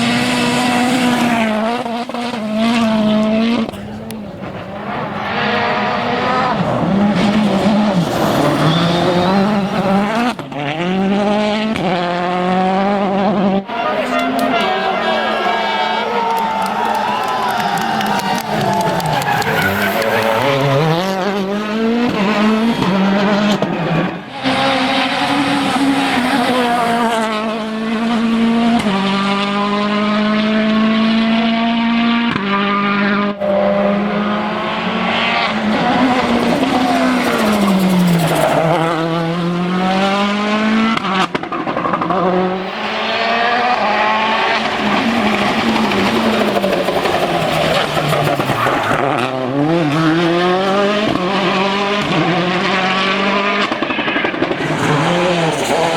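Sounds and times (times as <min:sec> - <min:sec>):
rally car engine revving hard: 0:00.0 - 0:55.9.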